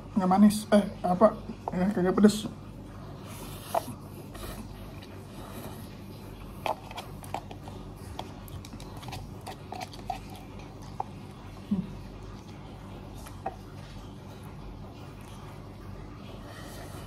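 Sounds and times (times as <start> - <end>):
person chewing noodles: 3.3 - 17.0.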